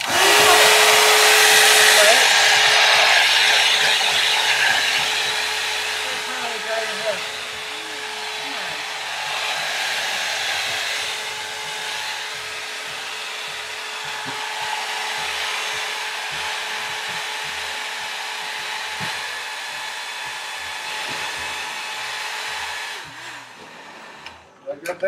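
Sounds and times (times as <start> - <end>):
hair dryer blowing air: 0.0 - 24.5.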